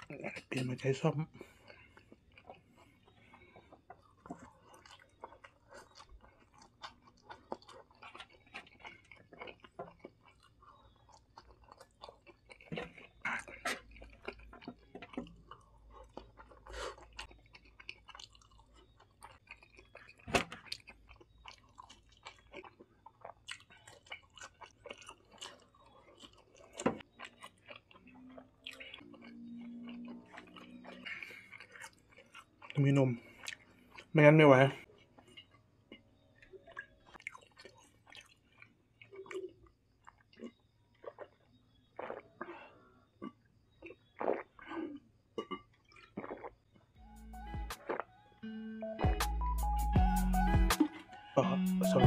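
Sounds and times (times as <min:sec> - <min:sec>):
person chewing noodles: 0:00.0 - 0:48.1.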